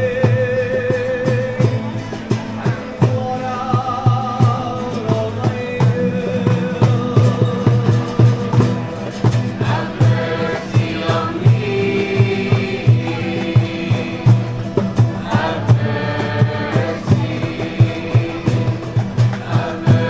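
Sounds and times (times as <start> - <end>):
song with singing voices: 0.0 - 20.0.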